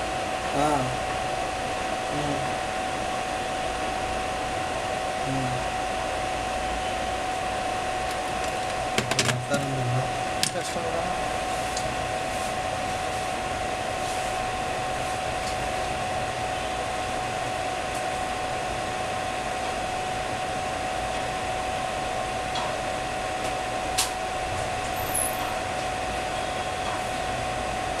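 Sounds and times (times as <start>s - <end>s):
machine whirring with high whine: 0.0s - 28.0s.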